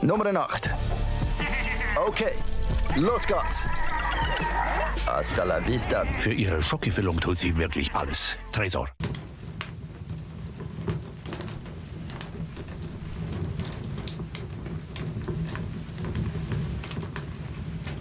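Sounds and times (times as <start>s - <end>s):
wood fire crackling: 0.0s - 5.5s, 9.0s - 18.0s.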